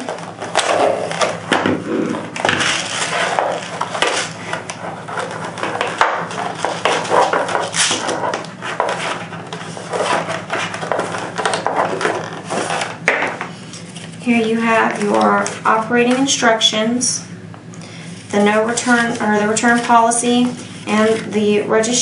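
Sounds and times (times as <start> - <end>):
packaging rustling and scraping: 0.0 - 15.8, 18.2 - 21.5.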